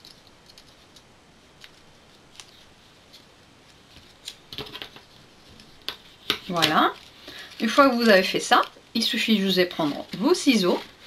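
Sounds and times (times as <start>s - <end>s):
paper rustling: 1.6s - 11.0s.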